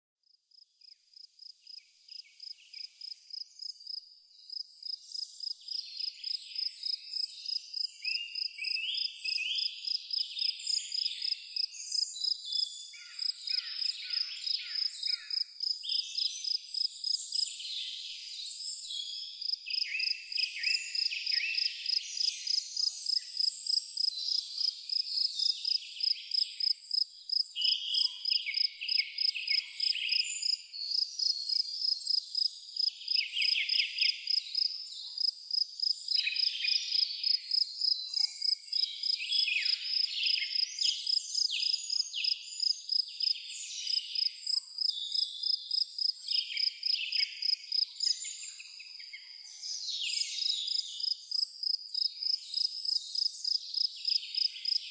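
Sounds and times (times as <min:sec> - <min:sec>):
insect chirping: 0:00.5 - 0:49.2, 0:50.3 - 0:54.9
songbirds calling: 0:01.4 - 0:54.9.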